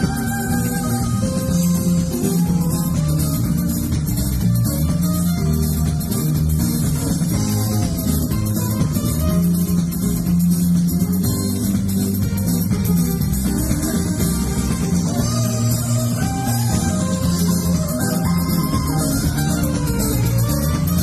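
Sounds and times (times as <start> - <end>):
drum kit: 0.0 - 21.0
electric guitar: 0.0 - 21.0
electric keyboard: 0.0 - 21.0
held bass notes: 0.0 - 21.0
live band music: 0.0 - 21.0.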